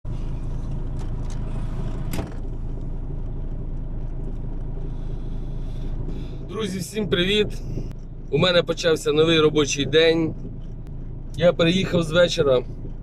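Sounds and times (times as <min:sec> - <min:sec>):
truck engine idling: 0:00.1 - 0:13.0.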